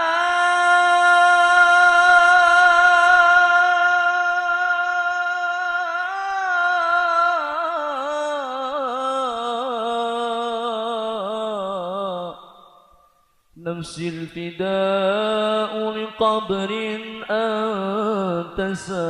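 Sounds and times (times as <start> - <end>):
person singing devotional melody: 0.0 - 13.0, 13.6 - 19.0.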